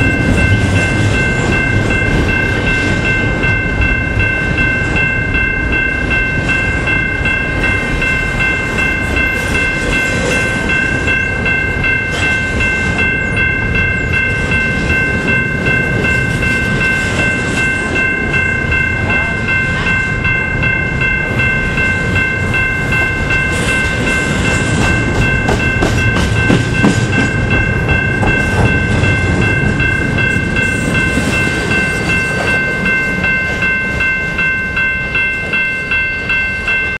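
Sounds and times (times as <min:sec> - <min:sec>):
crossing warning bell ringing: 0:00.0 - 0:37.0
train cars rolling past: 0:00.0 - 0:37.0.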